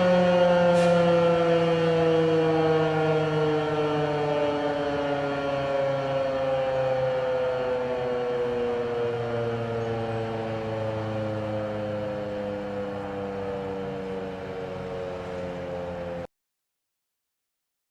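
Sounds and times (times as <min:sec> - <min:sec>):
warning siren winding down: 0:00.0 - 0:16.3.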